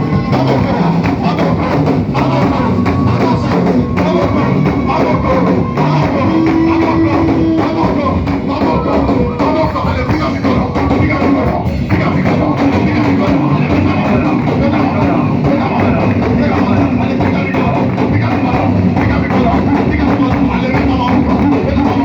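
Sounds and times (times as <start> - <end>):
drum kit playing: 0.0 - 22.0.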